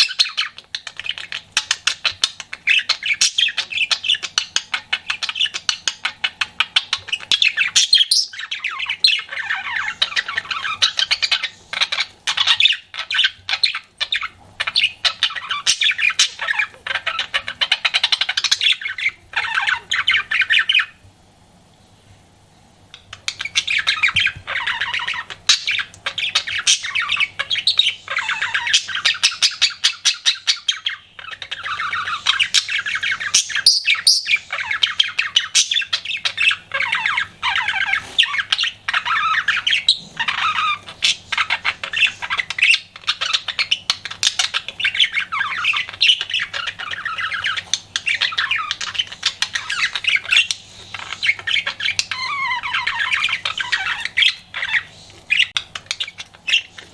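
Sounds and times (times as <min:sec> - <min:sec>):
budgerigar warbling: 0:00.0 - 0:21.0, 0:23.0 - 0:56.9.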